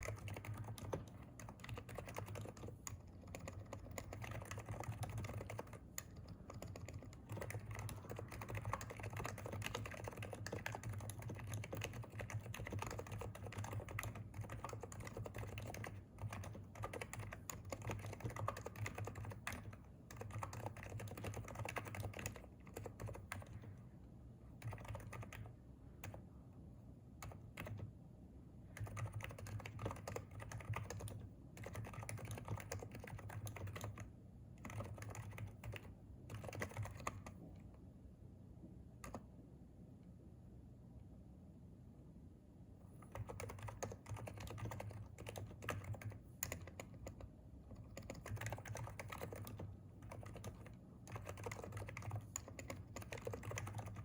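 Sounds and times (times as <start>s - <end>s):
fast keyboard typing: 0.0s - 23.8s, 24.5s - 26.2s, 27.2s - 28.0s, 28.7s - 37.5s, 39.0s - 39.2s, 43.0s - 54.0s
steady low hum: 0.0s - 54.0s.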